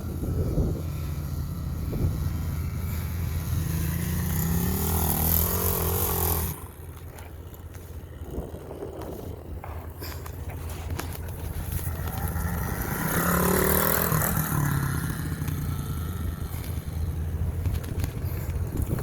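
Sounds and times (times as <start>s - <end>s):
motorbike engine revving: 0.0s - 19.0s.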